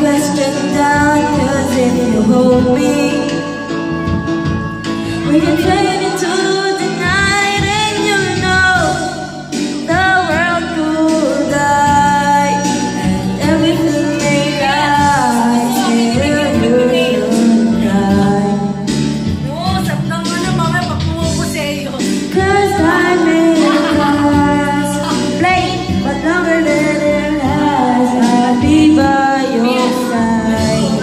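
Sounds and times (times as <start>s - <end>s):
backing music: 0.0s - 31.0s
woman singing karaoke: 0.0s - 31.0s.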